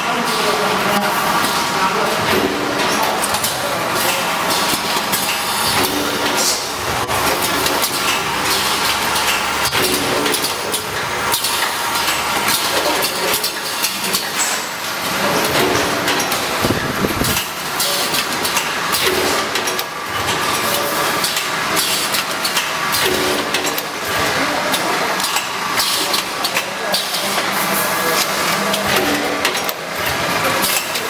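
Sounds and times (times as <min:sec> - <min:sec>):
packaging machine running: 0:00.0 - 0:31.0.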